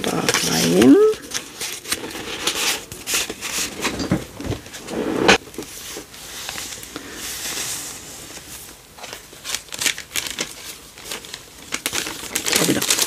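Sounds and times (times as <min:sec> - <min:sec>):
paper and card rustling: 0:00.0 - 0:04.8, 0:05.6 - 0:13.0.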